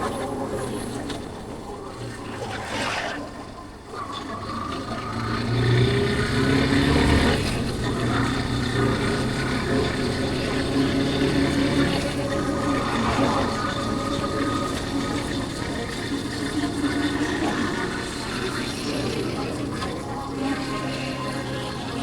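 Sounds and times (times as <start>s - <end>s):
motorcycle engine running: 4.4s - 22.0s.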